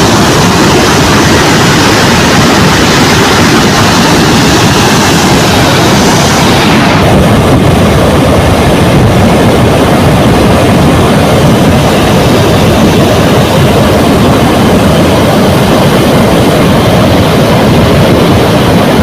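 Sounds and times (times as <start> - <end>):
water rushing through spillway: 0.0 - 19.0.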